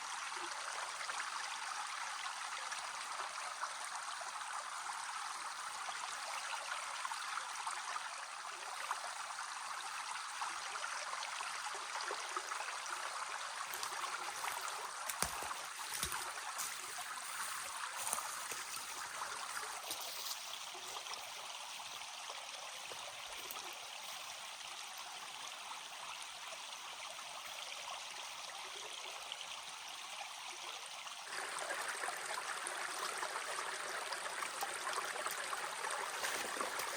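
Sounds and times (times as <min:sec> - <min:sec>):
stream running: 0:00.0 - 0:36.9.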